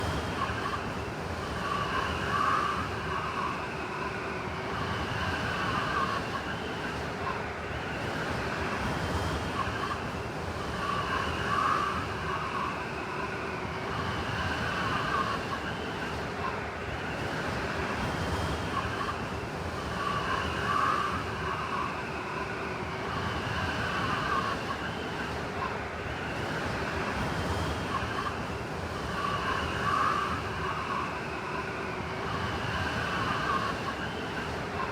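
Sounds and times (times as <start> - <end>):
howling blizzard wind: 0.0 - 34.9.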